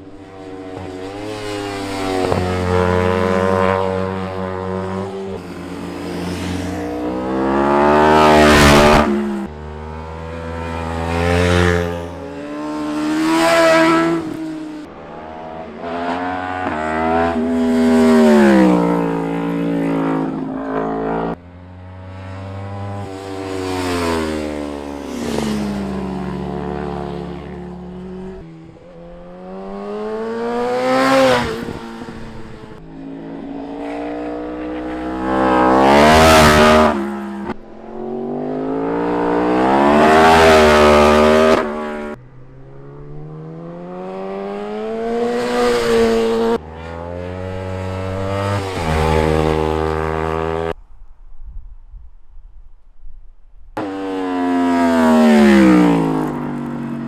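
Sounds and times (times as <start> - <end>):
motorcycles revving past: 0.0 - 50.8, 53.8 - 57.0.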